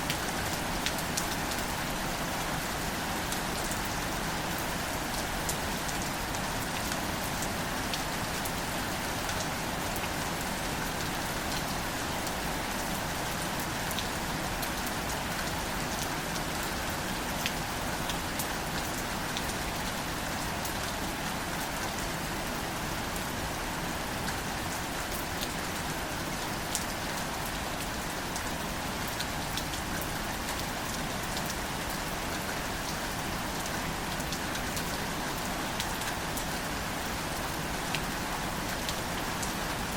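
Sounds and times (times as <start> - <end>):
gentle rain with ticking drops: 0.0 - 39.9.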